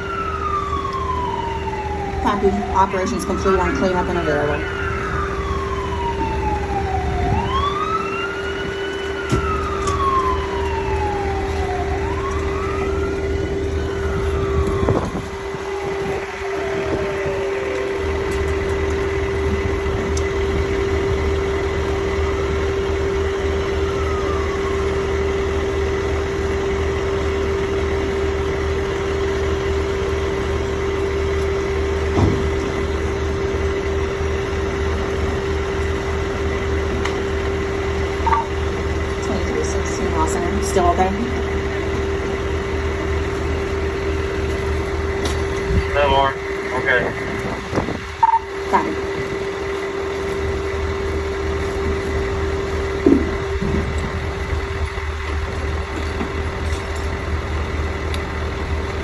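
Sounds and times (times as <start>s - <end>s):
siren wailing: 0.0s - 58.8s
engine idling: 0.0s - 59.0s.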